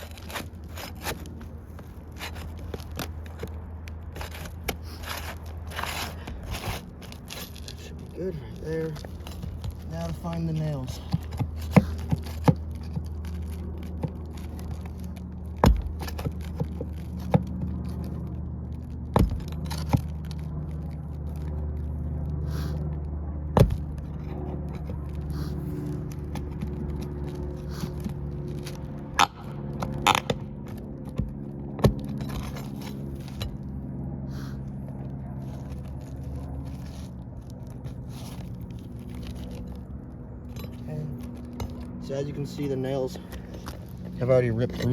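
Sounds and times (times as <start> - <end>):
tool scraping under shingles: 0.0 - 22.8, 23.6 - 44.9
low hum: 0.0 - 44.9.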